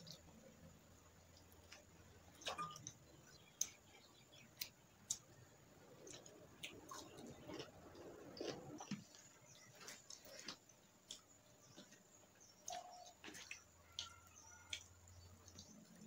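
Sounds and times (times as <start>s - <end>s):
wet chewing: 1.3s - 16.0s.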